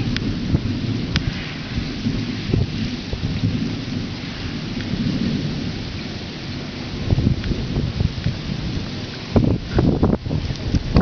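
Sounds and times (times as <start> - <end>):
low rumble of thunder: 0.0 - 11.0
steady rain falling: 0.0 - 11.0.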